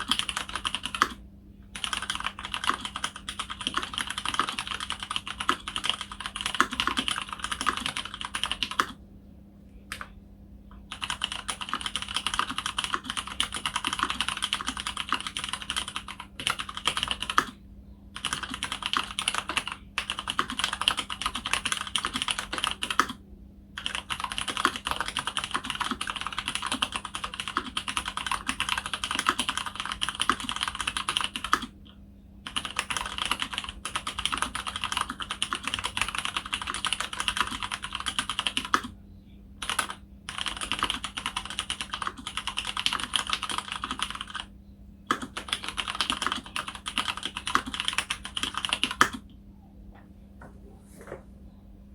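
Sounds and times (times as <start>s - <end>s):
typing on mechanical keyboard: 0.0s - 1.2s, 1.8s - 9.0s, 10.9s - 17.6s, 18.2s - 23.2s, 23.8s - 31.7s, 32.5s - 38.9s, 39.6s - 44.5s, 45.1s - 49.2s.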